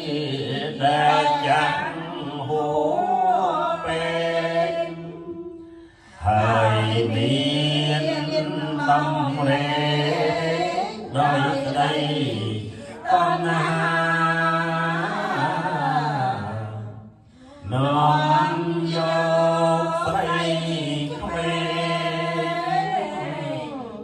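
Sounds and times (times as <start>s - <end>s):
group chanting in unison: 0.0s - 24.0s
voice leading through a microphone: 0.0s - 24.0s.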